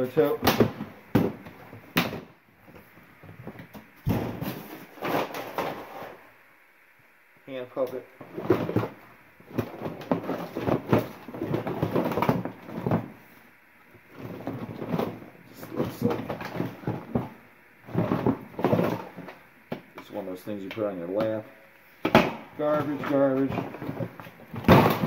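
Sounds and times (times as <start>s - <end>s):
rustling and handling noise: 0.0s - 6.4s, 7.6s - 25.0s.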